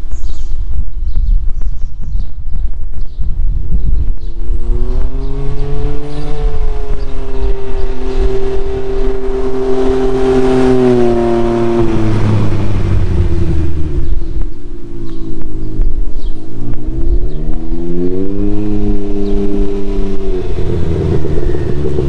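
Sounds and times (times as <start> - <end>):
wind noise on microphone: 0.0 - 22.0
motorcycle engine drive-by: 4.2 - 22.0.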